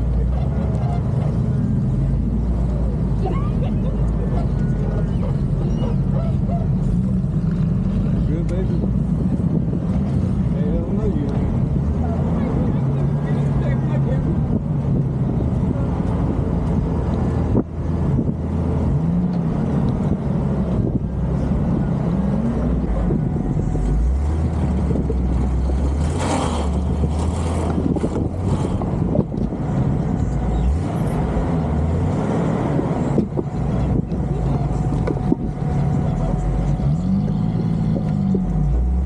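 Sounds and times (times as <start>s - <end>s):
engine running under load: 0.0s - 39.0s.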